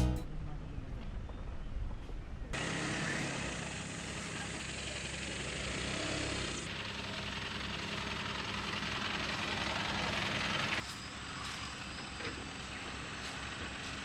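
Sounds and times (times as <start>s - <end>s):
road and tyre noise: 2.3s - 14.0s
car engine drone: 2.6s - 14.0s.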